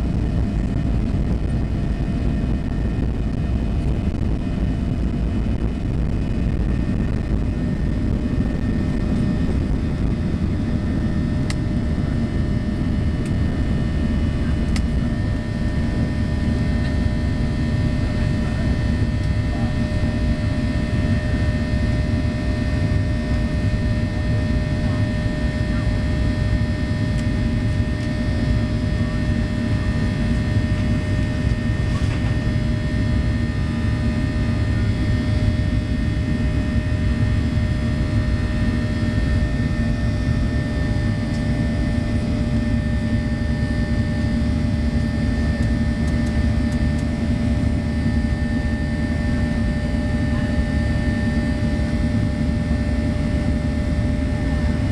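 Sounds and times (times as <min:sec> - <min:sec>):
faint steady whining tones: 0:00.0 - 0:54.9
jet engines and airflow rushing: 0:00.0 - 0:54.9.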